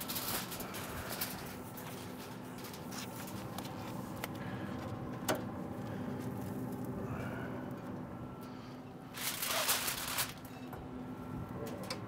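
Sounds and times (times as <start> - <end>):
low hum: 0.1 - 12.0.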